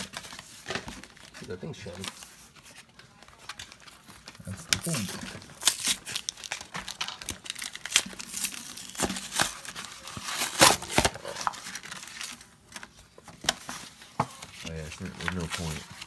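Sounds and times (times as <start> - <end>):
plastic packaging crackling: 0.0 - 16.0.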